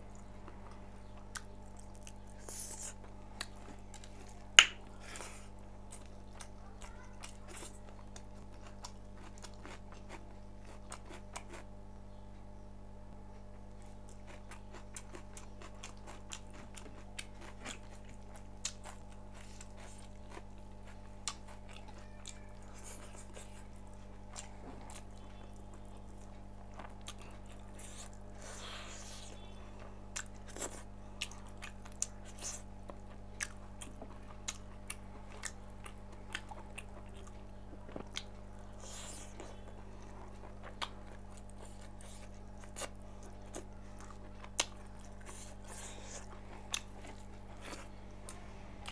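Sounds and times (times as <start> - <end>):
low electrical hum: 0.0 - 48.9
chewing and crunching: 0.1 - 11.8, 13.5 - 48.9.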